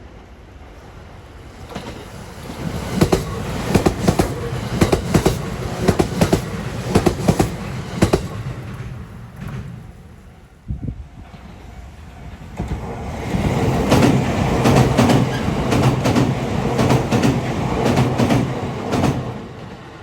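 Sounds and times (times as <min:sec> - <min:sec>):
wheels clacking over rail joints: 0:01.6 - 0:10.5, 0:12.2 - 0:19.9.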